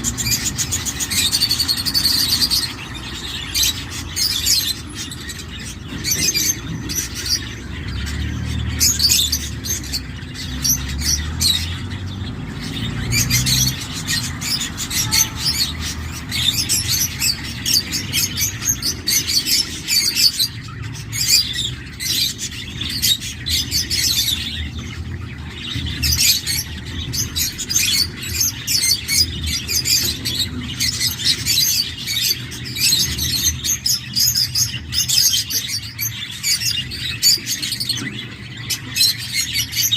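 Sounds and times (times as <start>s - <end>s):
bird chicks cheeping: 0.0s - 39.9s.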